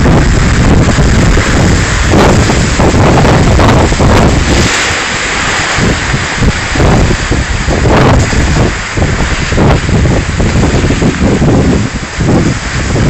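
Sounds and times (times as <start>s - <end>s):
gusty wind blasting microphone: 0.0s - 13.0s.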